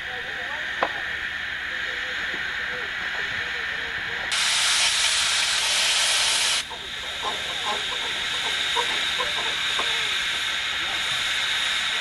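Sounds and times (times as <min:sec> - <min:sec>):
steam hissing from boiler: 0:00.0 - 0:12.0.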